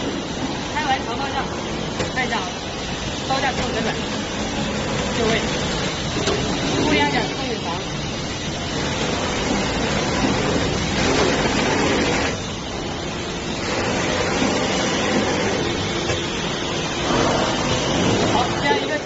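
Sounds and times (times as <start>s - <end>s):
grooving machine running: 0.0s - 19.0s.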